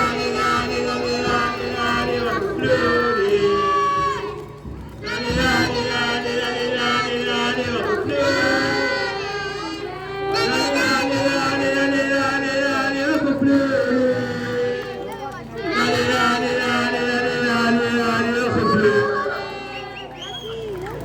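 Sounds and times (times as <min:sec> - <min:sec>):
crowd noise: 0:00.0 - 0:21.0
loud singing: 0:00.0 - 0:21.0.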